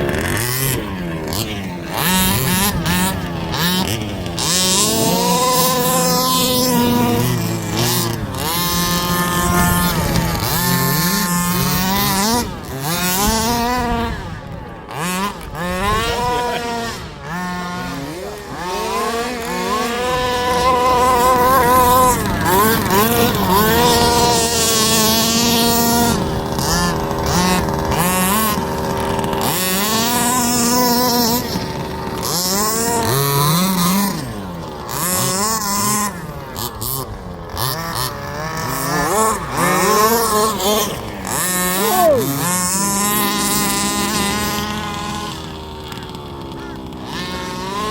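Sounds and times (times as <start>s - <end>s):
rc buggy engines revving: 0.0s - 47.9s.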